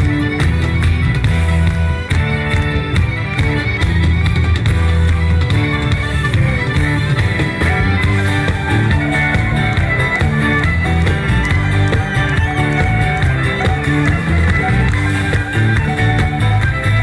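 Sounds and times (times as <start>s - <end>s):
fiddle: 0.0s - 17.0s
folk-rock band playing: 0.0s - 17.0s.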